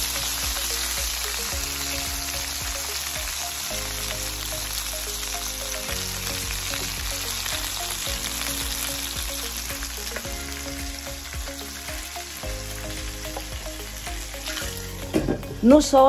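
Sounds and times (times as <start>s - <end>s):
meat sizzling in skillet: 0.0s - 16.0s.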